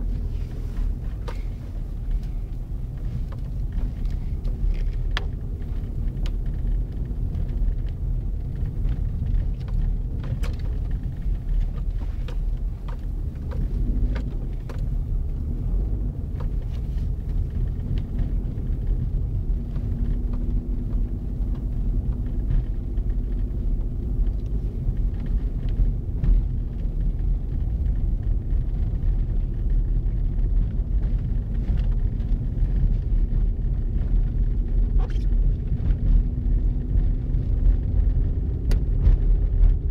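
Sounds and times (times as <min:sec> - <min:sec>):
car engine and tyres rumbling: 0:00.0 - 0:39.9
faint engine hum: 0:00.0 - 0:39.9.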